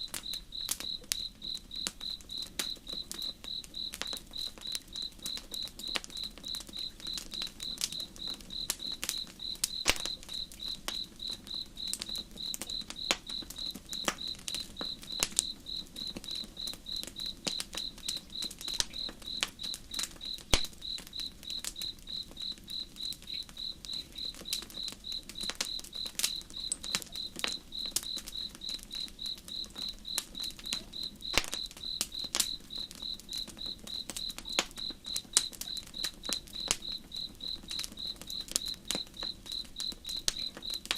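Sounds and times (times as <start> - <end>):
campfire crackling and popping: 0.0 - 40.9
insect chirping: 0.0 - 40.9.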